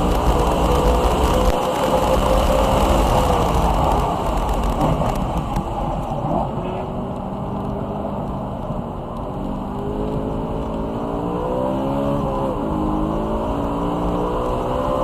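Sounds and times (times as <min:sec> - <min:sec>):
car engine running hard: 0:00.0 - 0:15.0
wind noise: 0:00.0 - 0:15.0.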